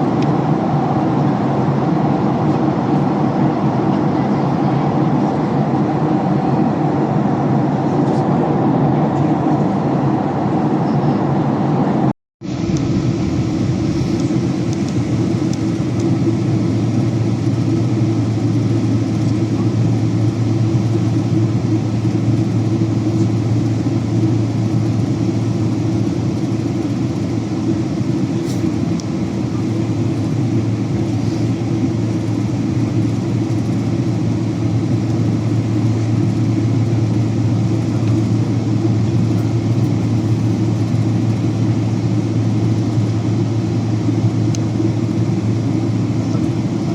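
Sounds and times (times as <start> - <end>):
airliner cabin noise: 0.0 - 46.9.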